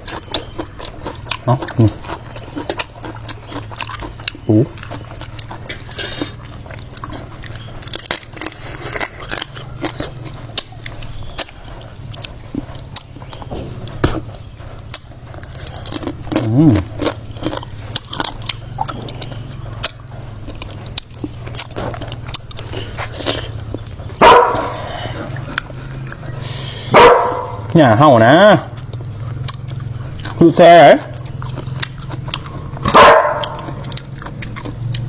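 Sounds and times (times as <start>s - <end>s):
chewing and crunching: 0.0s - 35.0s.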